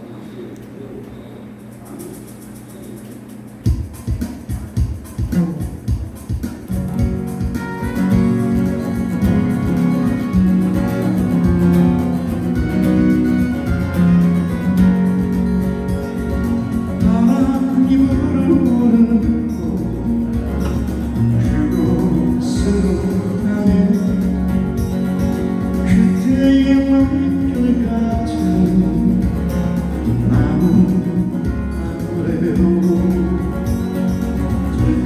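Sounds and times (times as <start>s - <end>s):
acoustic guitar music: 1.2s - 35.0s.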